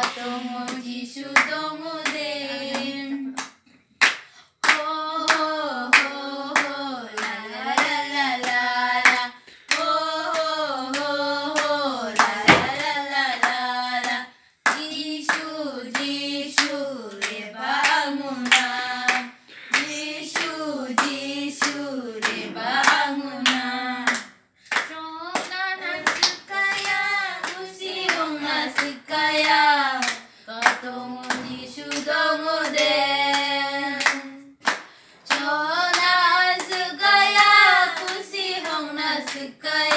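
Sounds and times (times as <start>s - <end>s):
girls singing together: 0.0s - 3.6s, 4.6s - 39.9s
hand claps: 0.0s - 39.9s.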